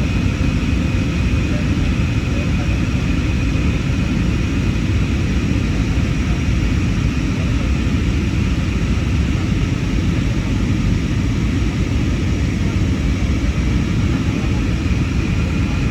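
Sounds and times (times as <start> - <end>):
airplane cabin rumble: 0.0 - 15.9.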